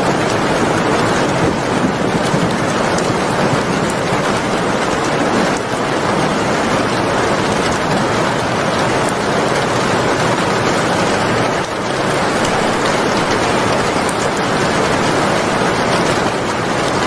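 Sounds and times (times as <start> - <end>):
heavy rain: 0.0 - 17.0
raindrop ticks: 0.0 - 17.0.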